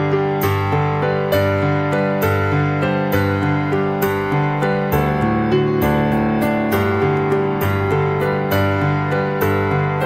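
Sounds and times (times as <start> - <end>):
gentle electric piano notes: 0.0 - 10.0.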